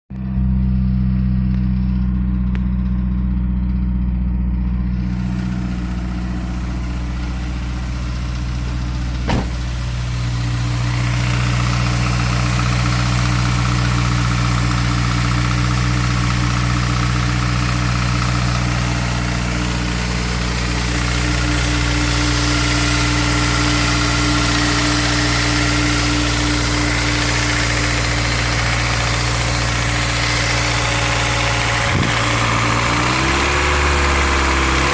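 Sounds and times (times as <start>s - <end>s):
car engine idling with rattle: 0.1s - 34.9s.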